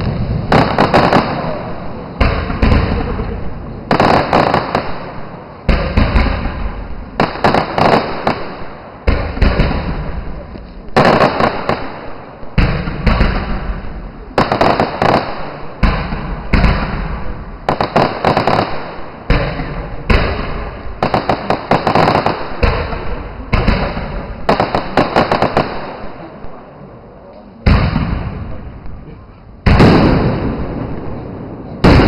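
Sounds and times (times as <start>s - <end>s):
fireworks bursting: 0.0s - 26.9s, 27.6s - 32.0s
fireworks crackling: 0.0s - 32.0s.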